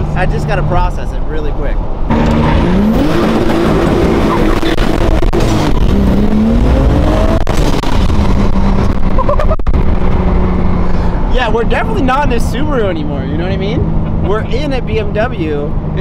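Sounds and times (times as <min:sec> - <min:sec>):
road and wind noise: 0:00.0 - 0:16.0
car engine accelerating: 0:02.0 - 0:16.0.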